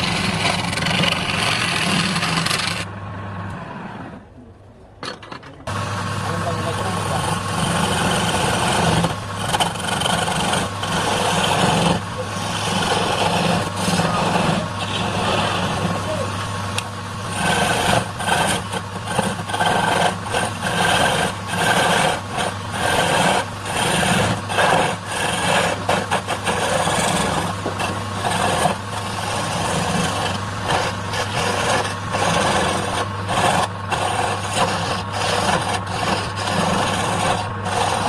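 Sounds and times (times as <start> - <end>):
power tool rasping into wood: 0.0 - 2.8, 6.6 - 38.0.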